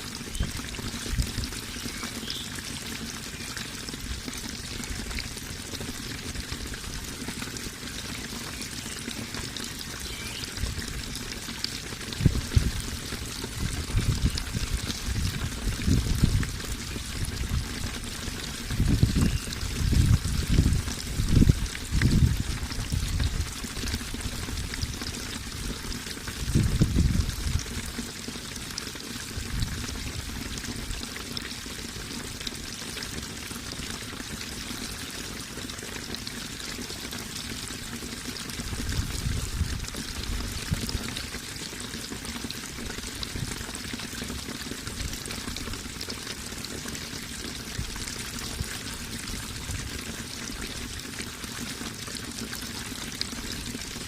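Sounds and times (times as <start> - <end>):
low rushes of water: 0.0 - 54.0
water pouring and trickling: 0.0 - 54.0.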